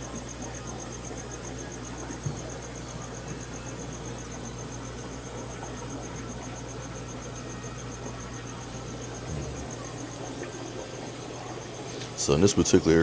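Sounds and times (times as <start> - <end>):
aquarium filter hum and hiss: 0.0 - 13.0.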